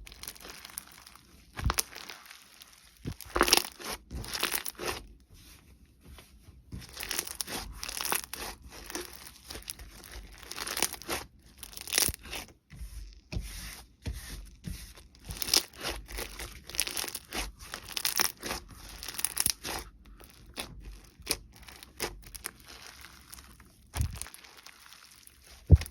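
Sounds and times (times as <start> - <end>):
slime squishing and crackling: 0.0 - 5.2, 6.7 - 13.2, 14.2 - 25.9.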